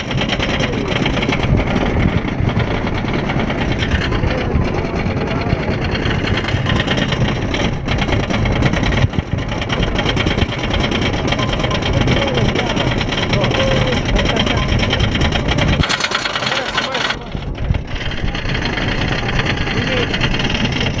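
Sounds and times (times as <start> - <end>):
amusement ride mechanical rumble: 0.0 - 21.0.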